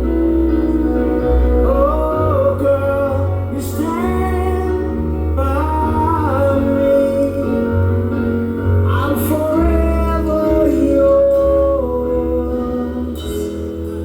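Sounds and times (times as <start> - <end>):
high lead voice singing: 0.0 - 14.0
live band playing a ballad: 0.0 - 14.0.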